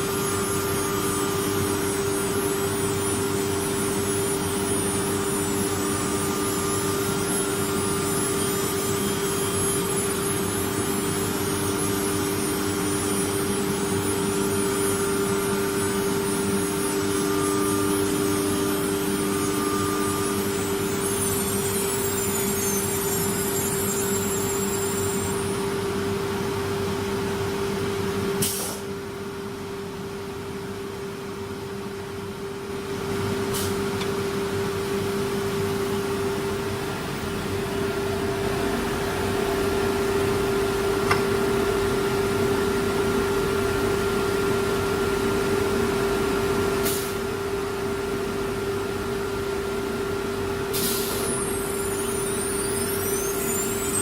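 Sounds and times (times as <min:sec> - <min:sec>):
cnc router spindle whine: 0:00.0 - 0:28.4, 0:29.0 - 0:54.0.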